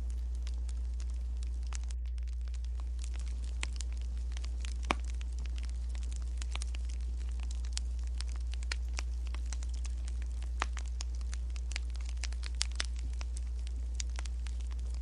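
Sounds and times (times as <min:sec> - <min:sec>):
low hum: 0:00.0 - 0:15.0
wood fire crackling: 0:00.0 - 0:15.0.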